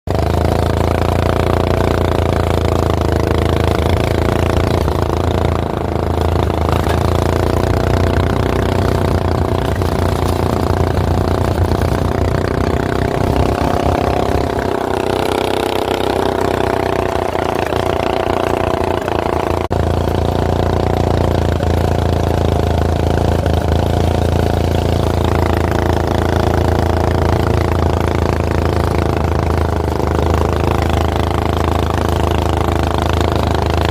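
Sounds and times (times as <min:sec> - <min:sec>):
small gas engine running: 0:00.1 - 0:33.9.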